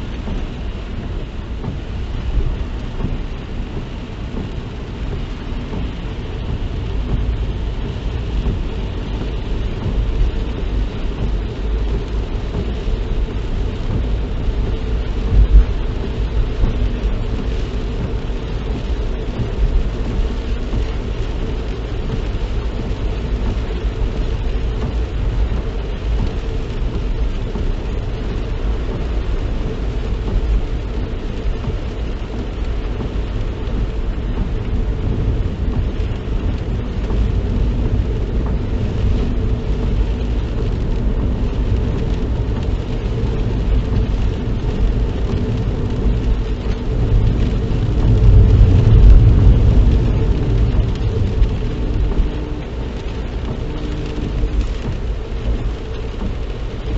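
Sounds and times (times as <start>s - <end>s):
car engine and tyre noise: 0.0s - 56.9s.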